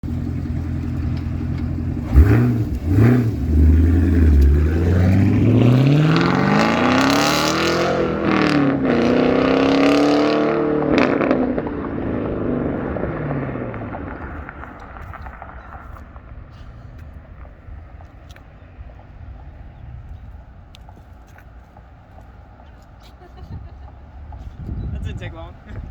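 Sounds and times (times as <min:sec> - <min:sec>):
engine idling and revving: 0:00.0 - 0:21.3.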